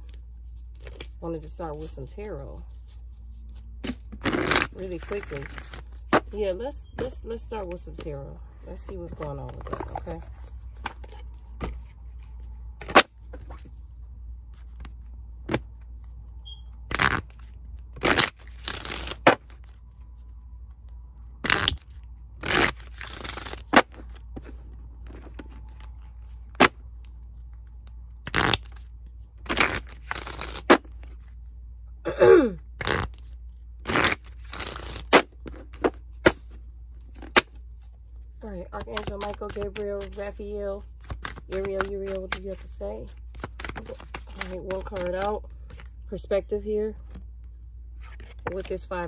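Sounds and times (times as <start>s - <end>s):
cards being shuffled: 0.0s - 1.9s, 2.7s - 6.4s, 8.7s - 16.3s, 16.9s - 20.3s, 21.4s - 31.4s, 32.8s - 46.0s, 48.0s - 49.0s.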